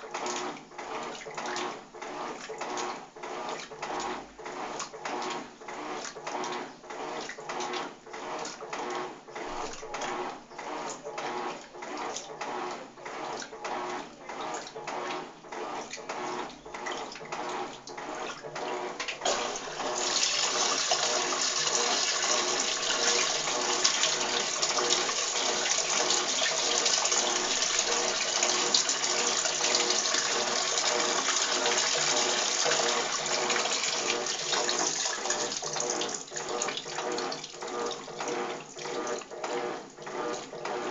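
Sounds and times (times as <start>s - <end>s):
washing machine agitating: 0.0s - 40.9s
water and clothes sloshing: 0.0s - 40.9s.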